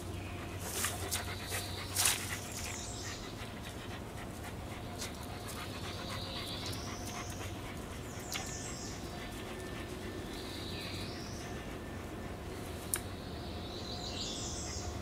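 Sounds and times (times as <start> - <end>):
dog panting: 0.3 - 12.8.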